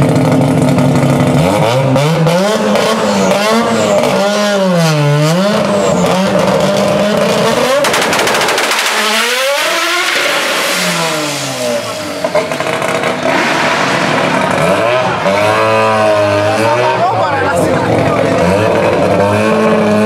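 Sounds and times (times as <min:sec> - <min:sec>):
engine stuttering crackle: 0:00.0 - 0:20.0
rotary engine idling and revving: 0:00.0 - 0:20.0.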